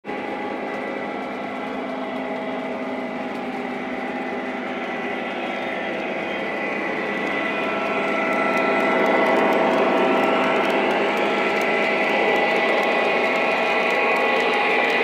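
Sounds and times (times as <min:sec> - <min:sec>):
drone propellers whirring: 0:00.2 - 0:15.0.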